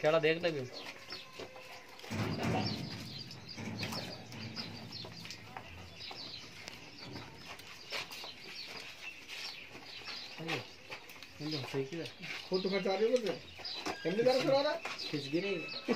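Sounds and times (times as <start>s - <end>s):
birds chirping and calling: 0.0s - 15.9s.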